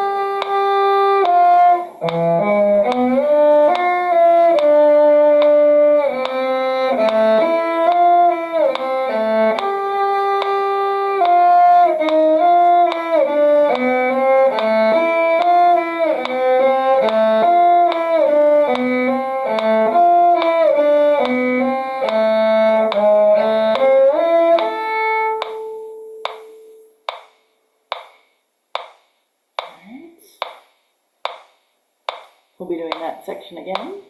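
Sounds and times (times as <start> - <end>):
metronome clicking: 0.0 - 34.0.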